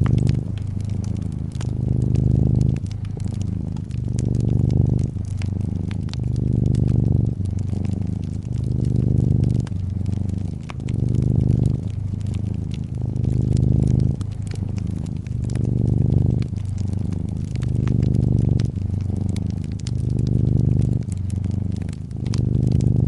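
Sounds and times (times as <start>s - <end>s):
cat purring: 0.0s - 23.0s
fireplace crackling: 0.0s - 23.0s.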